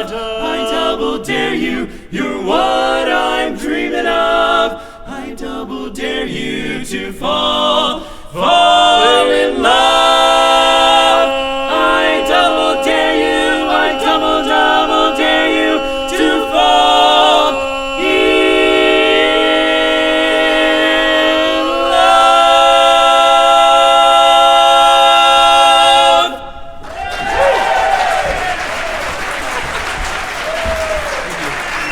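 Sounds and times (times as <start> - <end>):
male quartet singing a cappella: 0.0 - 26.8.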